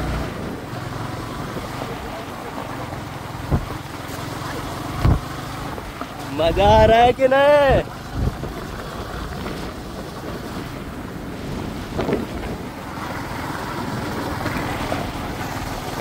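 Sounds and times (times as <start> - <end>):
wind rushing over microphone: 0.0 - 4.0, 4.9 - 16.0
vehicle rumbling: 0.0 - 16.0.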